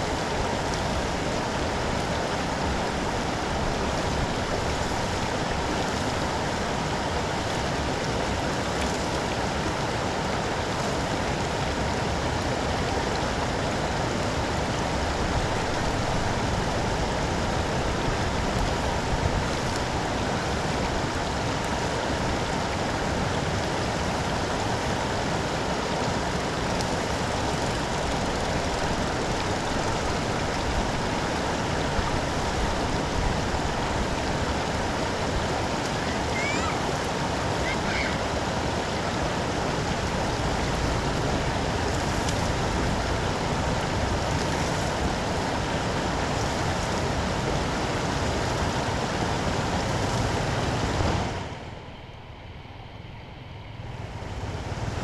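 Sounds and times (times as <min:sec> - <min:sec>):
storm water rushing into drain: 0:00.0 - 0:52.3, 0:53.8 - 0:55.0.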